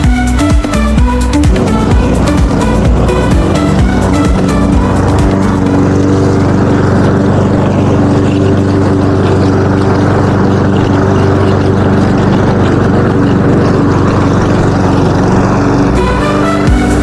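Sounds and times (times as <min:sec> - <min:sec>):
lawn mower engine droning: 0:00.0 - 0:17.0.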